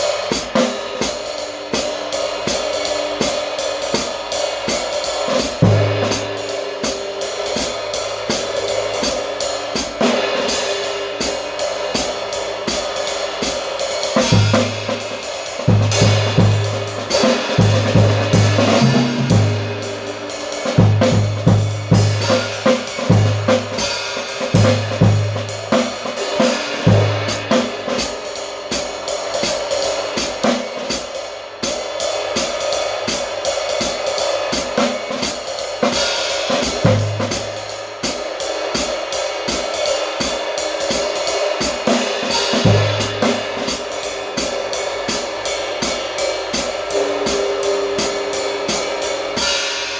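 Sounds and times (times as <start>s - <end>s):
cymbal strokes: 0.0s - 49.9s
snare and hi-hat: 0.0s - 49.9s.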